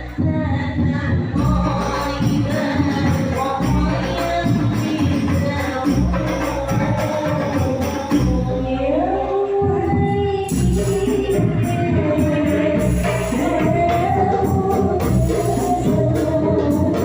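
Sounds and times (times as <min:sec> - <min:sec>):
voices singing a melody: 0:00.0 - 0:17.0
frame drums beating: 0:00.8 - 0:08.6, 0:09.7 - 0:17.0.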